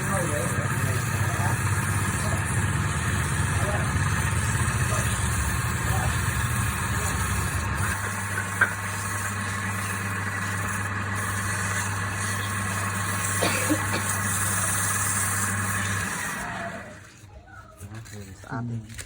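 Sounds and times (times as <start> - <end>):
wood lathe motor running: 0.0 - 17.2.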